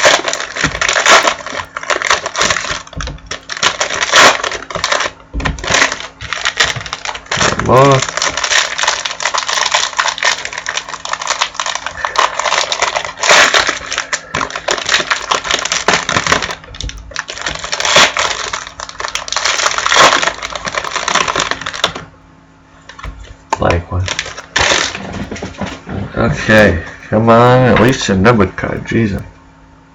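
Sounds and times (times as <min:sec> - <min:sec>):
wrappers tearing and crinkling: 0:00.0 - 0:22.1, 0:23.6 - 0:25.7.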